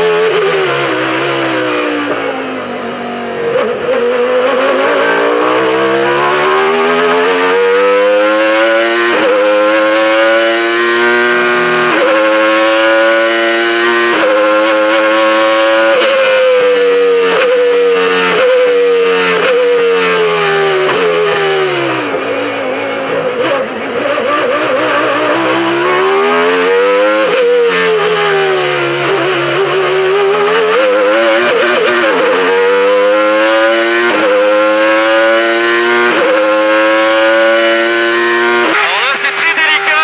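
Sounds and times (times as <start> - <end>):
engine downshifts with throttle blips: 0.0 - 40.0
racing car engine accelerating: 0.0 - 40.0.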